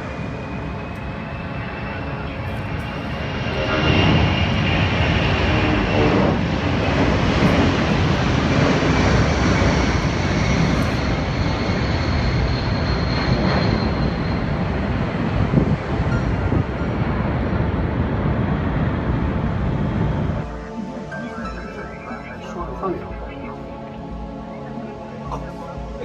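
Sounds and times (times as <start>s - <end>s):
airplane engine noise: 0.0s - 26.0s.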